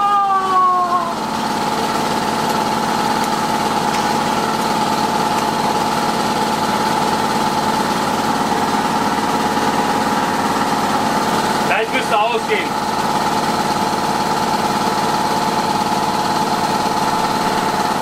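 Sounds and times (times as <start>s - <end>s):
electric air compressor running: 0.0s - 18.0s.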